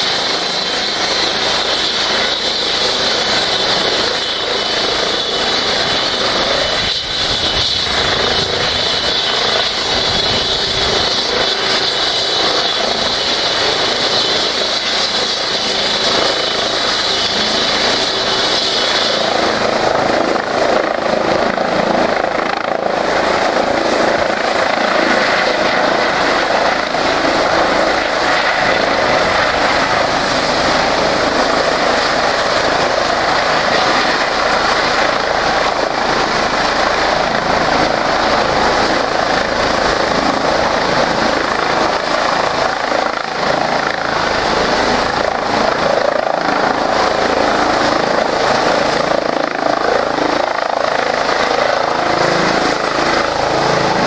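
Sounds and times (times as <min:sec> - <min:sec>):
helicopter rotor noise: 0:00.0 - 0:54.0
turbine whine: 0:00.0 - 0:54.0.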